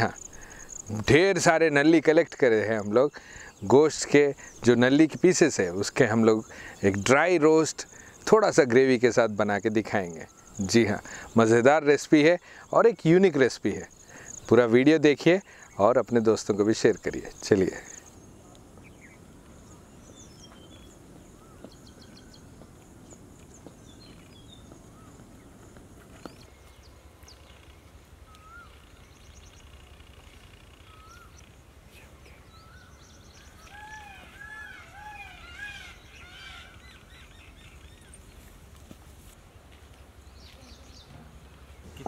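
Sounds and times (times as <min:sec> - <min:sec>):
repeated arching bird notes: 0:00.0 - 0:38.6
bird calls: 0:00.0 - 0:42.0
outdoor ambience: 0:00.0 - 0:42.0.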